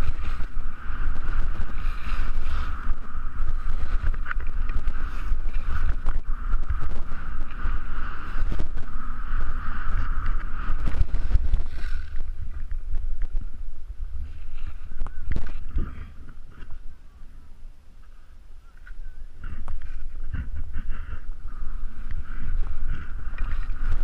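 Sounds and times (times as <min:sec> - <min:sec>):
skis scraping over snow: 0:00.0 - 0:16.8, 0:19.5 - 0:24.0
wind buffeting microphone: 0:00.0 - 0:24.0.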